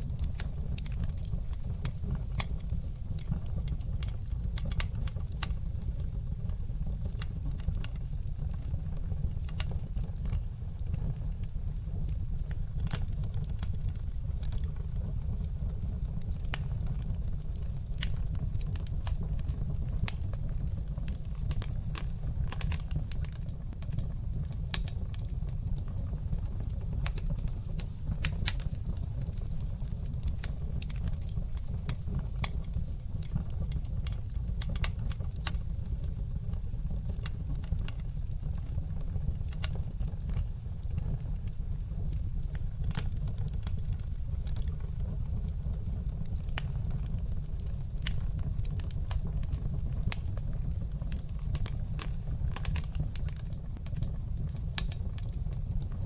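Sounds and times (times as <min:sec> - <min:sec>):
fire pops and snaps: 0:00.0 - 0:56.0
wood fire crackling: 0:00.0 - 0:56.0.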